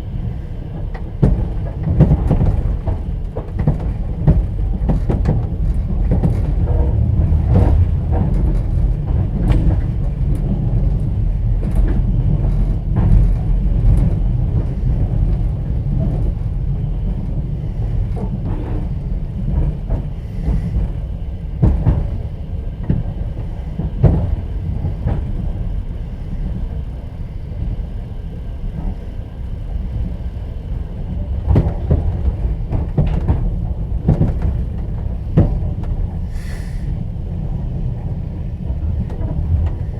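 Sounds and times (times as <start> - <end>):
train rumble: 0.0 - 39.9
wheels knocking and clacking: 0.7 - 26.8, 31.1 - 39.9.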